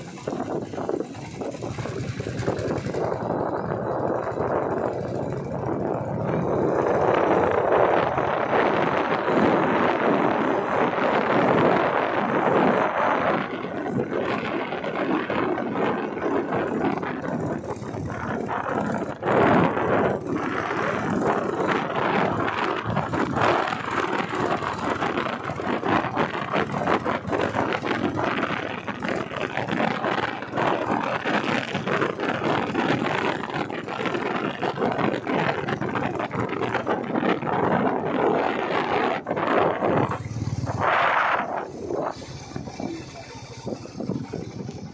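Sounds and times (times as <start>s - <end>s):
vehicle running and road noise: 0.0s - 44.9s
wind buffeting microphone: 0.0s - 44.9s.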